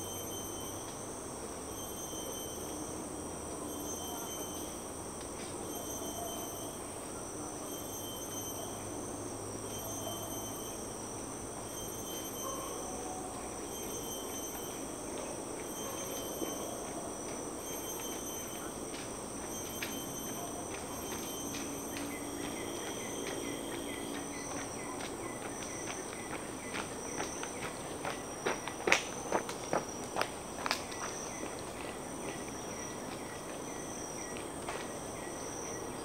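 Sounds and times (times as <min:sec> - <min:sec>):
insects droning: 0:00.0 - 0:36.0
pulsing insect call: 0:00.0 - 0:36.0.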